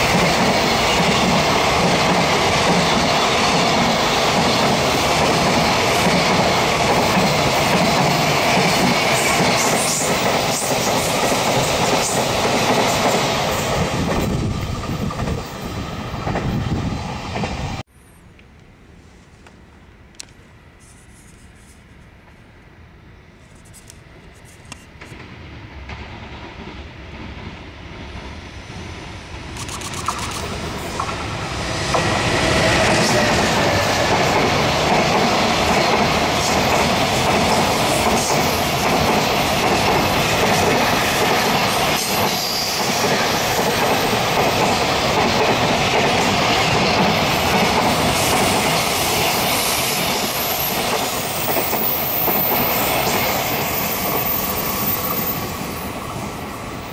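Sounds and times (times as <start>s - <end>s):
freight train wheels on rails: 0.0s - 17.9s, 23.8s - 56.9s.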